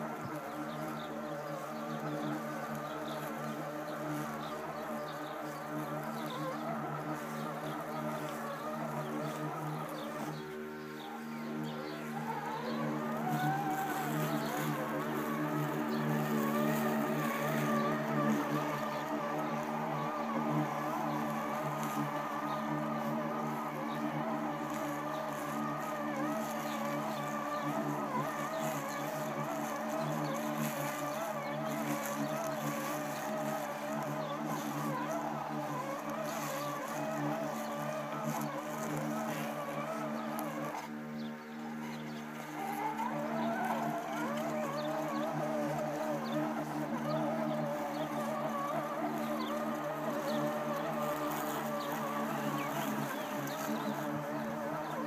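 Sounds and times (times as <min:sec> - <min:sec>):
electric motor hum: 0:00.0 - 0:55.0
wavering high whine: 0:00.0 - 0:55.0.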